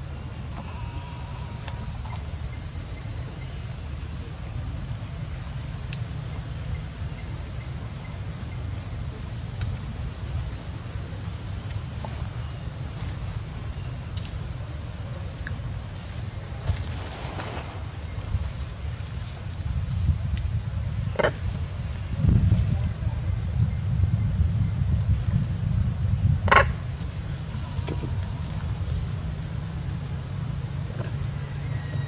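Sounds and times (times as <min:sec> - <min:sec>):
insects droning: 0:00.0 - 0:32.0
low uneven rumble: 0:00.0 - 0:32.0.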